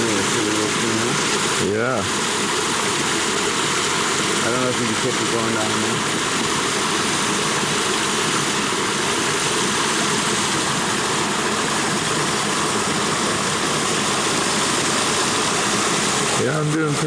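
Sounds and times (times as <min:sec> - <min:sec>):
flowing water in a stream: 0:00.0 - 0:17.0.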